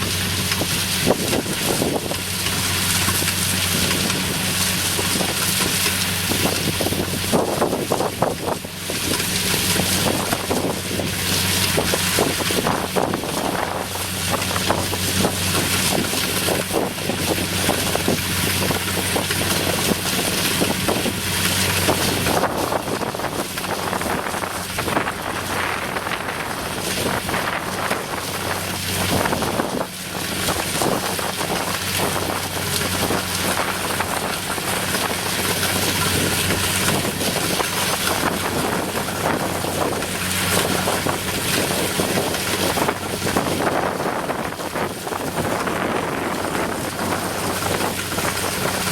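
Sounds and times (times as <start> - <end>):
combine harvester diesel engine: 0.0 - 48.9
wind noise on microphone: 0.0 - 48.9.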